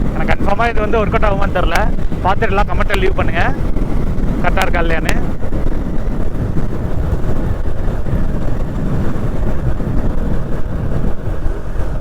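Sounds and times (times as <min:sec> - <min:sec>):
motorcycle engine and wind rumble: 0:00.0 - 0:12.0.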